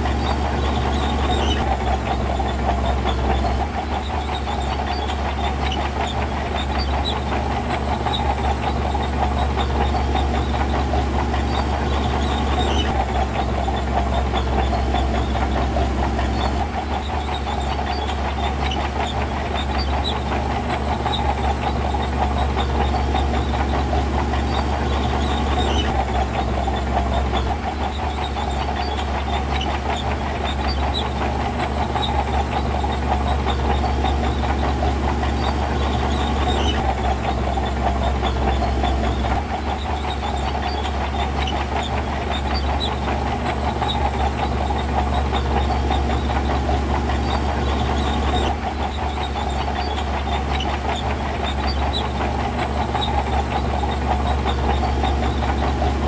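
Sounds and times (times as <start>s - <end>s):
diesel engine rumbling under load: 0.0s - 56.0s.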